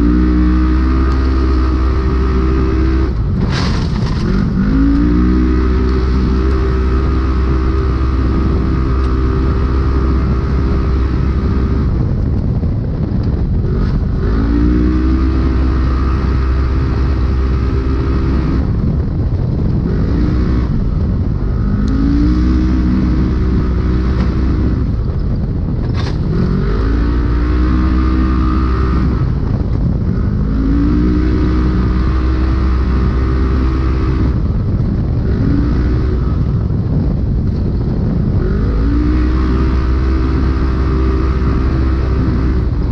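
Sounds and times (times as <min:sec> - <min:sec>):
utility vehicle engine revving: 0:00.0 - 0:42.9
wind: 0:00.0 - 0:42.9
chassis rattle: 0:00.8 - 0:38.7.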